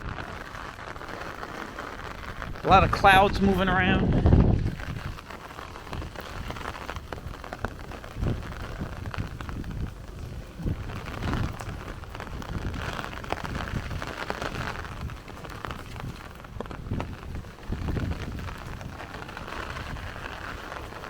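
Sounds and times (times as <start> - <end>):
rain drumming on an umbrella: 0.0 - 21.0
wind gusts buffeting microphone: 0.0 - 21.0.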